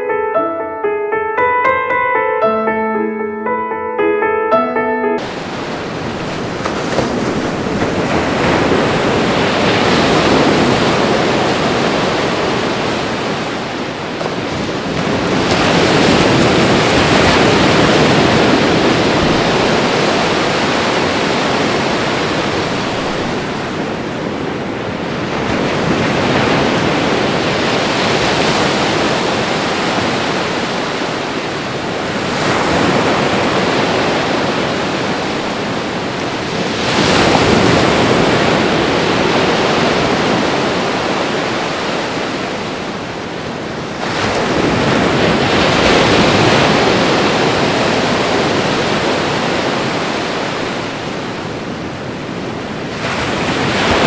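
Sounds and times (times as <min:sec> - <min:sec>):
waves breaking on beach: 0:05.2 - 0:54.0.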